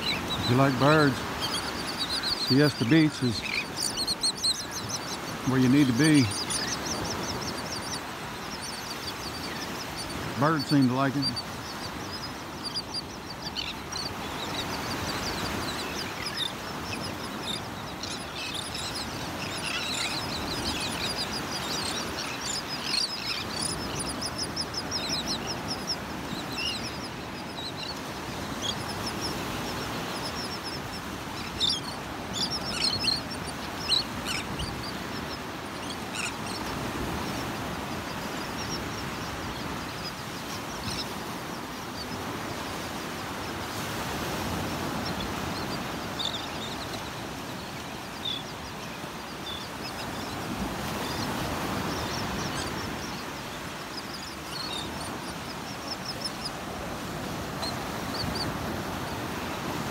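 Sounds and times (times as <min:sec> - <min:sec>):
surf: 0:00.0 - 0:59.9
terns and gulls calling: 0:00.0 - 0:59.9
wind: 0:00.0 - 0:59.9.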